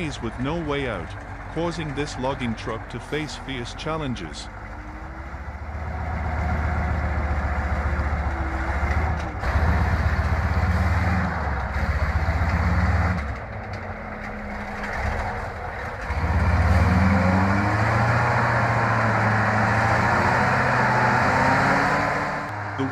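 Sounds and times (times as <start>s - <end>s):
truck diesel engine labouring: 0.0s - 22.9s.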